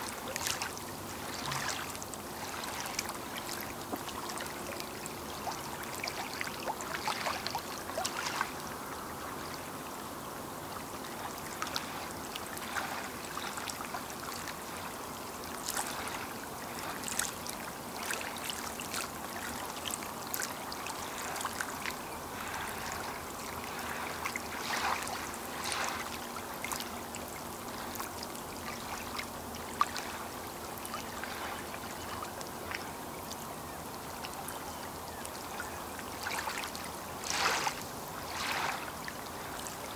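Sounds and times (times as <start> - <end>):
soft water trickling: 0.0 - 39.9
waves lapping against shore: 0.0 - 39.9.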